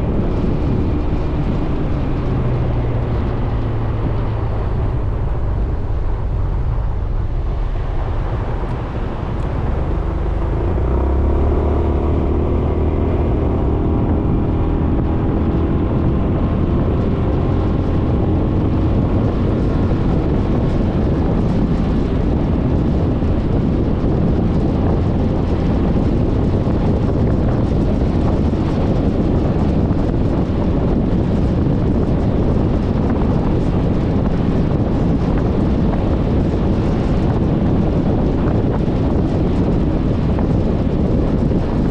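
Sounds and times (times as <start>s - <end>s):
wind rush on microphone: 0.0s - 41.9s.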